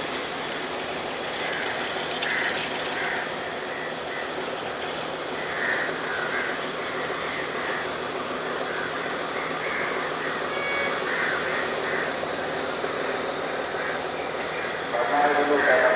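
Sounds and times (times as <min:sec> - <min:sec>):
train running on rails: 0:00.0 - 0:15.9.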